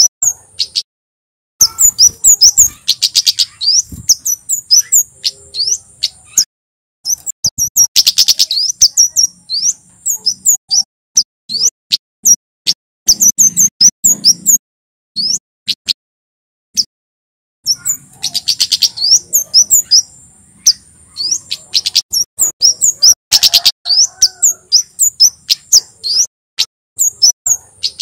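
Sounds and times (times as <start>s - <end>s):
bird sharp high chirps: 0.0s - 0.9s, 1.6s - 14.6s, 15.2s - 16.0s, 17.6s - 28.0s.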